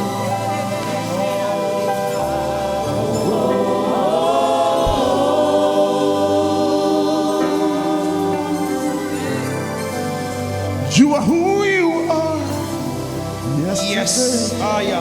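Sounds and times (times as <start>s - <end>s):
church choir singing gospel: 0.0s - 15.0s.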